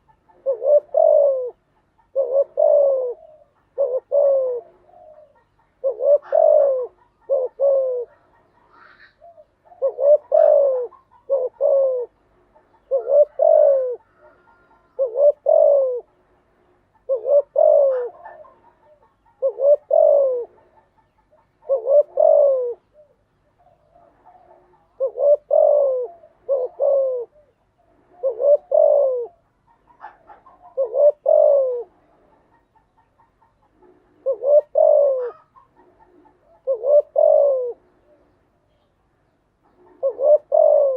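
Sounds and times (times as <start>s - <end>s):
dove cooing: 0.0s - 38.9s, 39.5s - 40.9s.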